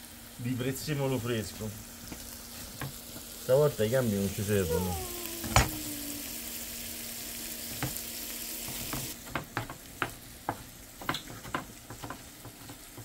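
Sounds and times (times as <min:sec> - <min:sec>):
meat and onion sizzling in pan: 0:00.0 - 0:13.0.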